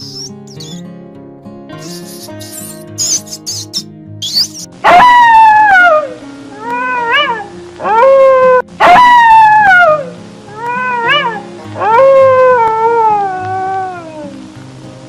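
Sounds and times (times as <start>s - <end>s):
soft background music: 0.0s - 15.0s
cat meowing: 1.8s - 14.4s.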